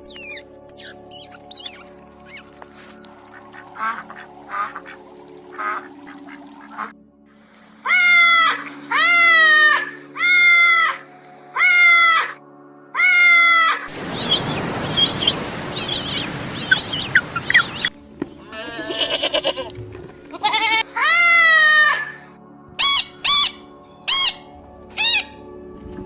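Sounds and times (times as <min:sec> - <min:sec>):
background music: 0:00.0 - 0:14.0, 0:17.4 - 0:26.0.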